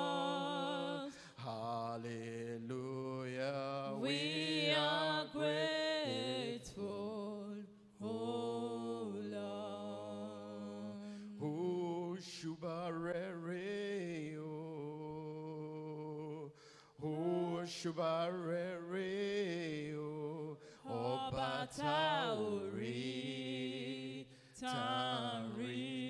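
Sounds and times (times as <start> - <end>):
person singing slow worship song: 0.0 - 26.0.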